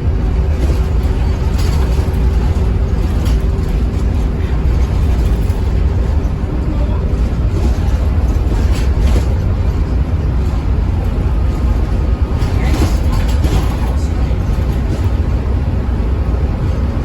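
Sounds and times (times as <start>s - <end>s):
diesel bus engine rumbling: 0.0s - 17.0s.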